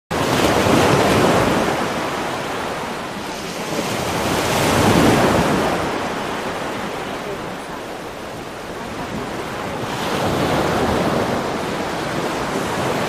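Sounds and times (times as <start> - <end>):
ocean waves washing in: 0.1 - 13.0.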